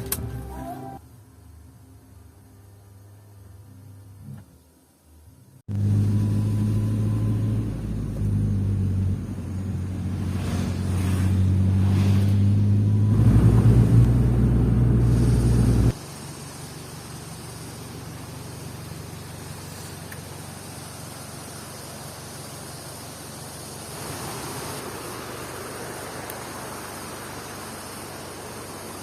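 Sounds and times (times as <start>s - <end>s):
car engine humming: 0.0s - 1.0s, 5.7s - 29.0s.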